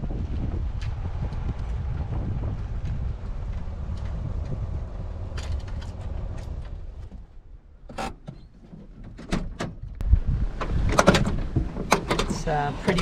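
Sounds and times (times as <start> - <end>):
wind buffeting microphone: 0.0 - 7.9, 8.8 - 13.0.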